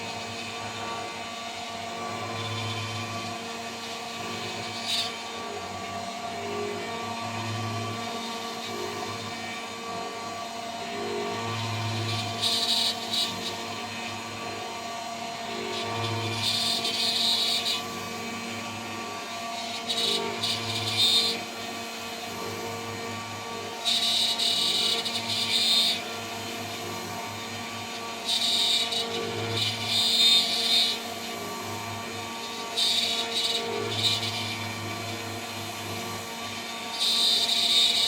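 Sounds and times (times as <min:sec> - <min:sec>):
high-pitched milling noise: 0:00.0 - 0:38.0.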